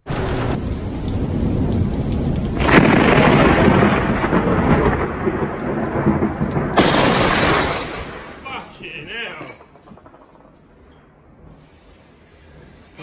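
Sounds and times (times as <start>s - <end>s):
thunderclap rumbling: 0.0s - 11.8s
heavy rain falling: 0.0s - 13.0s.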